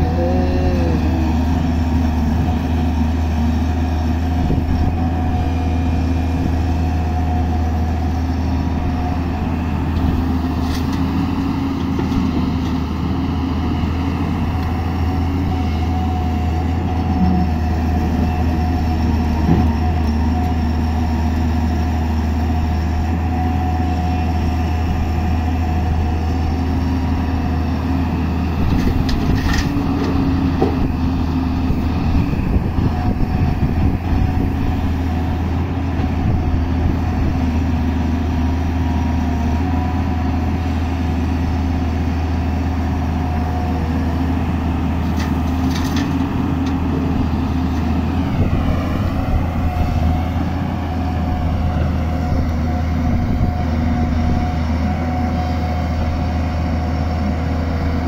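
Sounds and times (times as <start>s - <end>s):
heavy diesel engines droning: 0.0s - 58.0s.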